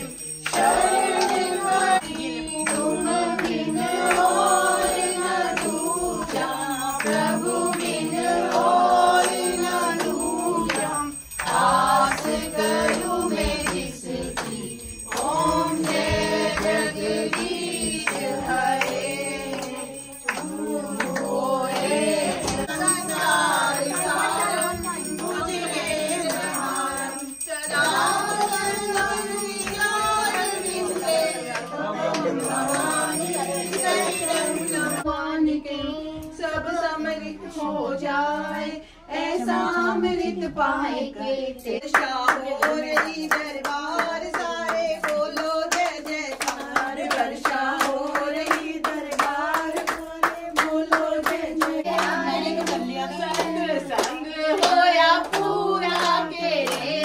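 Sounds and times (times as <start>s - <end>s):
rhythmic hand-clapping: 0.0s - 35.1s, 41.8s - 57.0s
group singing a devotional hymn: 0.0s - 57.0s.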